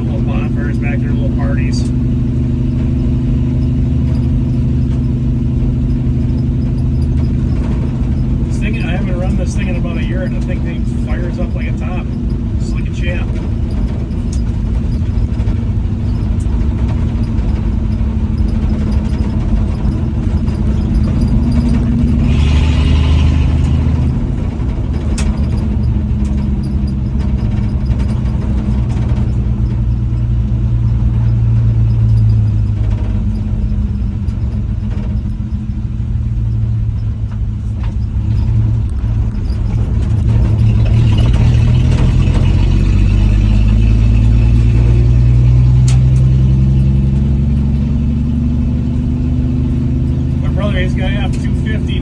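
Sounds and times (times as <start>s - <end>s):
pickup truck engine accelerating: 0.0s - 52.0s.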